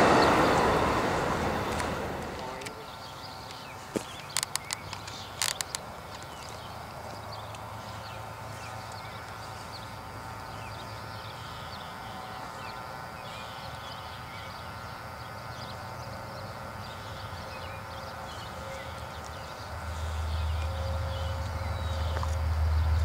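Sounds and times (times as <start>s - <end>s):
diesel locomotive engine drone: 0.0s - 4.6s, 5.8s - 23.0s.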